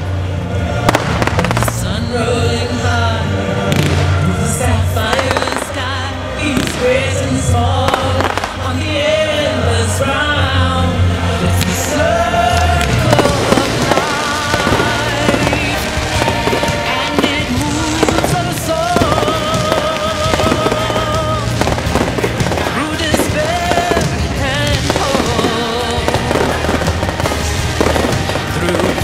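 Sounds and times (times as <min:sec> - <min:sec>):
fireworks bangs and crackles: 0:00.0 - 0:10.0, 0:11.4 - 0:29.0
loud music: 0:00.0 - 0:29.0.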